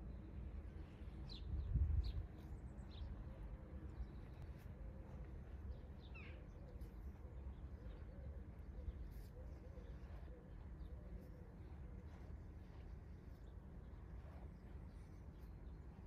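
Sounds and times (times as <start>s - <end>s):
faint birdsong: 0.0s - 16.0s
low steady rumble: 0.0s - 16.0s.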